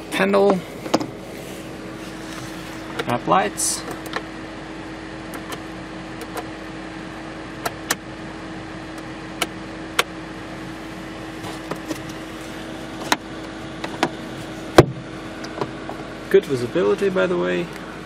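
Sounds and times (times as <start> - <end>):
air-conditioning fan hum: 0.0 - 18.0
car engine idling: 0.0 - 18.0.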